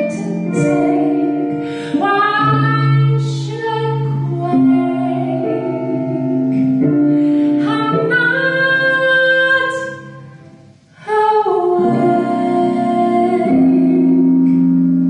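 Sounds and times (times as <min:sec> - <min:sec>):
backing music: 0:00.0 - 0:11.0, 0:11.6 - 0:15.0
woman singing into microphone: 0:00.0 - 0:14.7.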